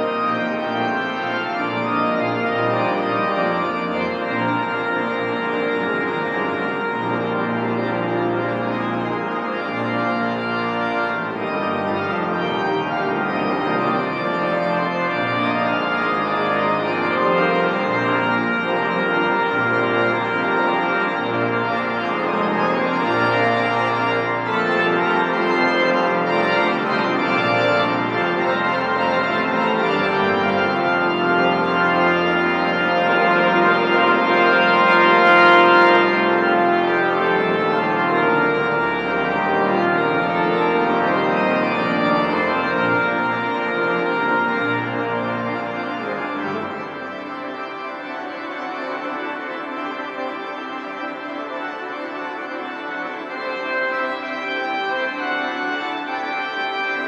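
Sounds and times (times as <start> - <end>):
church pipe organ playing chords: 0.0 - 57.0.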